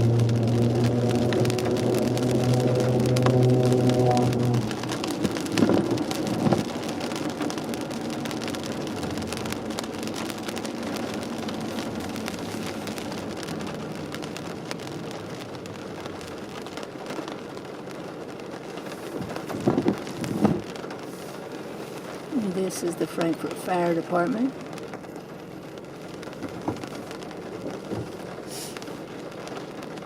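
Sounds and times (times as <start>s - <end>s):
rain and tyre hiss: 0.0s - 30.0s.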